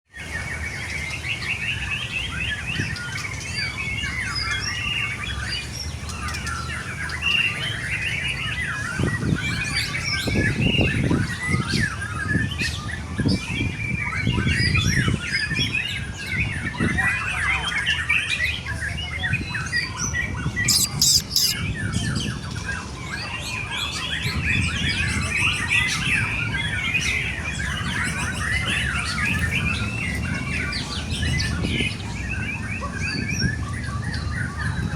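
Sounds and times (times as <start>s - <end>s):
bird warbling song: 0.2s - 34.9s.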